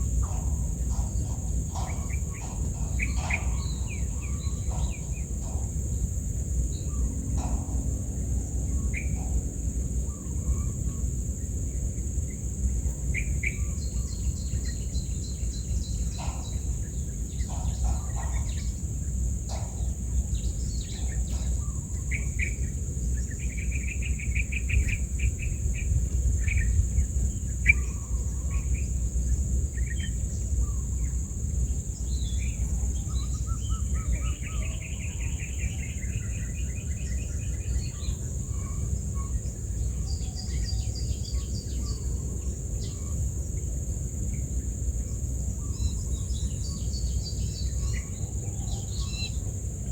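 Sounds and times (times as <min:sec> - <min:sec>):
birds chirping and trilling: 0:00.0 - 0:43.3, 0:44.3 - 0:49.9
constant low rumble: 0:00.0 - 0:49.9
high insect drone: 0:00.0 - 0:49.9.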